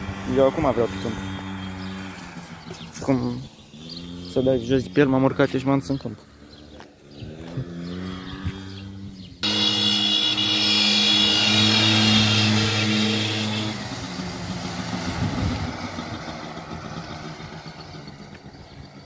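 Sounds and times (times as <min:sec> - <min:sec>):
atv engine running: 0:00.0 - 0:19.0
quieter engine sound: 0:00.0 - 0:19.0.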